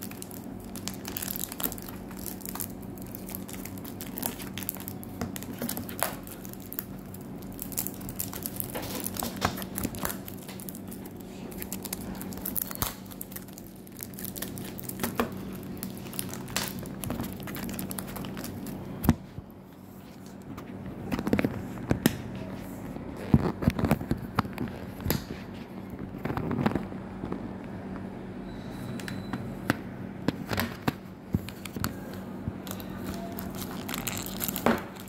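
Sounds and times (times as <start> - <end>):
cellophane wrapping crinkling: 0.0 - 27.0, 31.4 - 35.0
steady low hum: 0.0 - 35.0.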